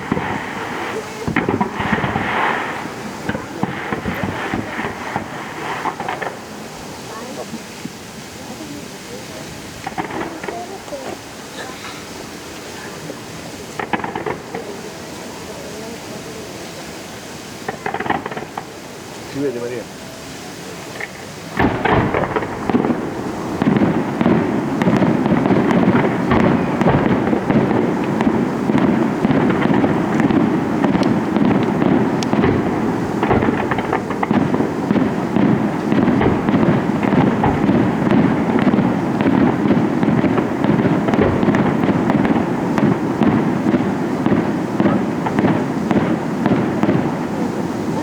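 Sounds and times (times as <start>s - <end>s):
fireworks crackling and banging: 0.0s - 48.0s.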